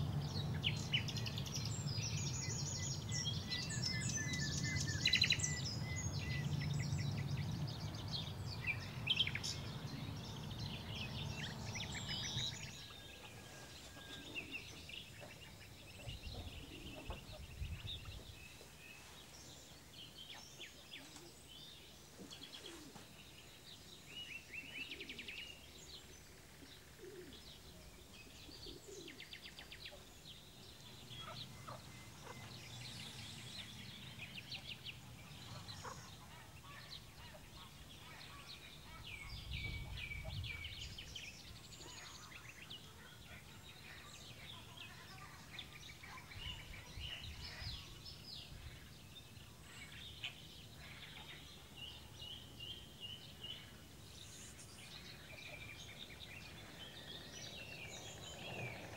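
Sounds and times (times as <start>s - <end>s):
songbirds singing and chirping: 0.0s - 58.9s.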